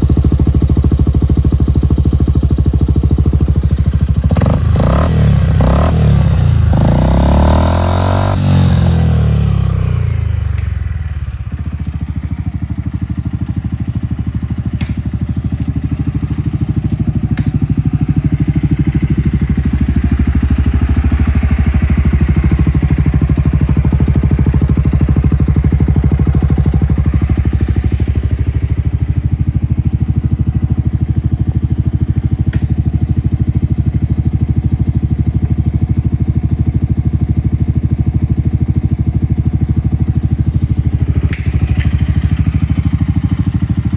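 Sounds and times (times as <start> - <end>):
scooter engine revving and idling: 0.0 - 43.9.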